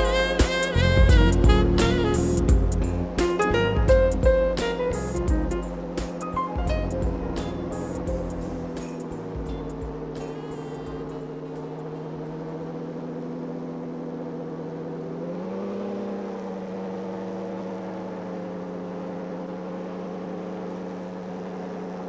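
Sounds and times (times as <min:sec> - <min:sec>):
engine and propeller drone: 0:00.0 - 0:22.0.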